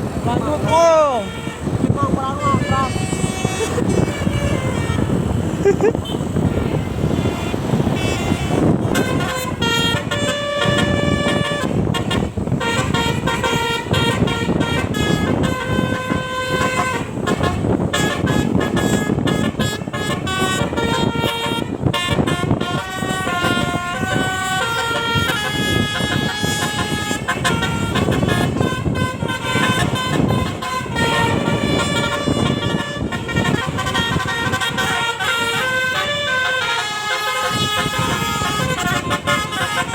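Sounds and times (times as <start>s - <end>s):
bus engine: 0.0s - 39.9s
multi-tone bus air horns: 0.0s - 39.9s
road rumble: 0.0s - 39.9s.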